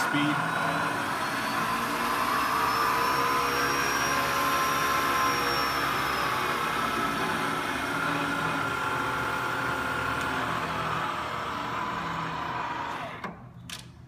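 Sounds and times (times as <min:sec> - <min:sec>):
milling machine motor hum and whine: 0:00.0 - 0:13.3.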